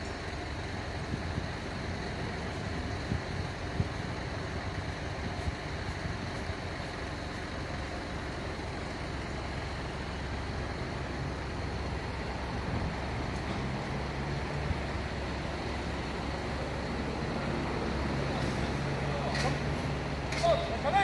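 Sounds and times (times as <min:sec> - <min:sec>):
heavy vehicle engine humming: 0:00.0 - 0:21.0.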